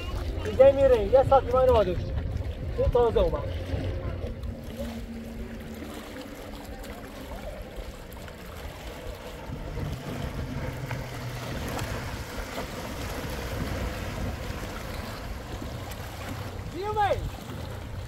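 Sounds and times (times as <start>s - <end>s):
low rumble: 0.0s - 18.0s
water rushing: 0.0s - 18.0s.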